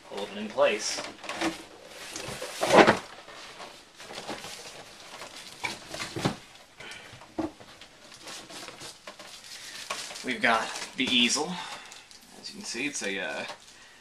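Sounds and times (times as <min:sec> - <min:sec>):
packaging rustling: 0:00.1 - 0:14.0.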